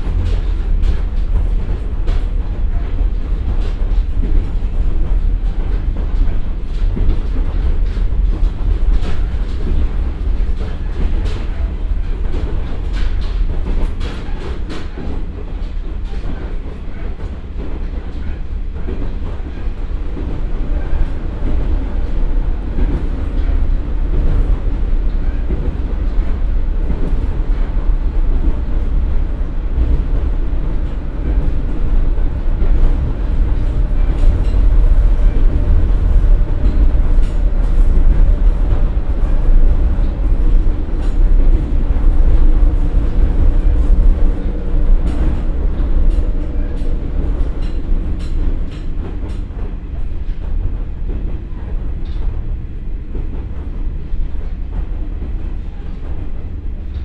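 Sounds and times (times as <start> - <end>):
diesel railcar rumble: 0.0 - 57.0.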